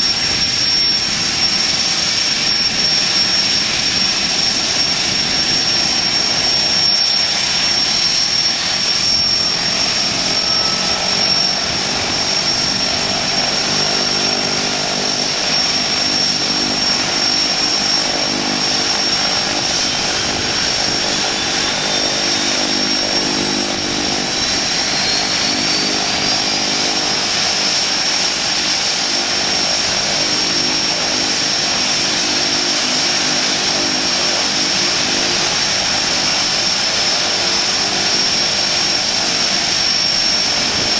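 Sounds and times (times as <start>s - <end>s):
high turbine whine: 0.0s - 40.9s
low propeller drone: 0.0s - 40.9s.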